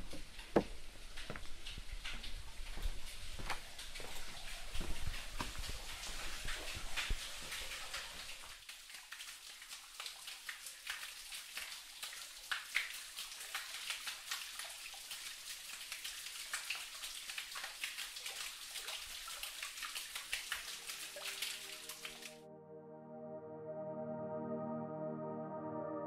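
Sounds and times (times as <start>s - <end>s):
water dripping in a cave: 0.1s - 22.4s.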